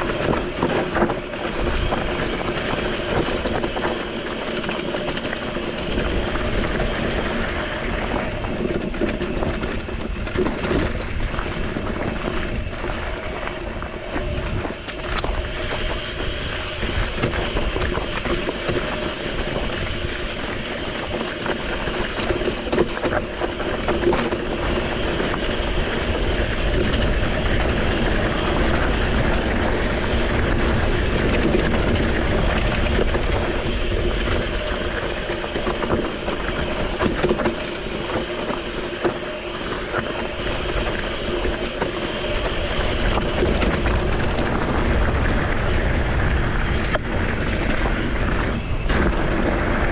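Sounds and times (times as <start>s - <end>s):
bike tyres rolling over gravel: 0.0s - 49.9s.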